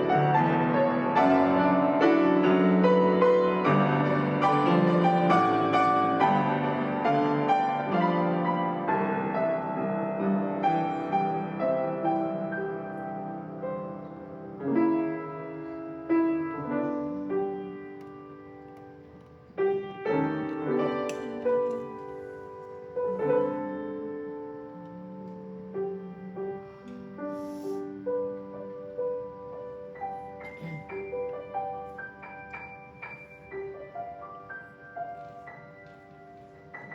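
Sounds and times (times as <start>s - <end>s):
solo piano chords: 0.0s - 36.9s.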